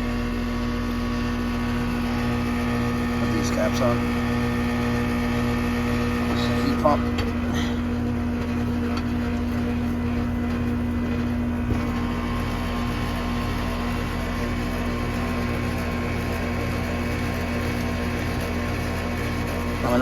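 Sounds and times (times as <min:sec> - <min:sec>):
heat pump compressor and fan hum: 0:00.0 - 0:20.0.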